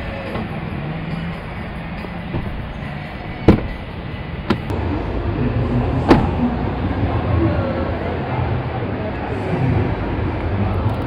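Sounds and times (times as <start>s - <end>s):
busy exhibition hall background noise: 0.0s - 11.0s.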